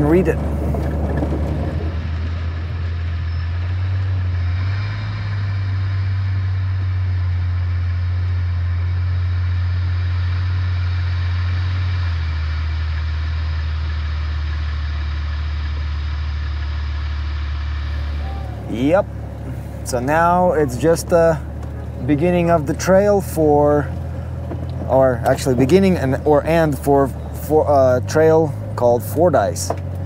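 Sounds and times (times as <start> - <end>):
low engine drone: 0.0 - 30.0
road and tyre hiss: 0.0 - 30.0.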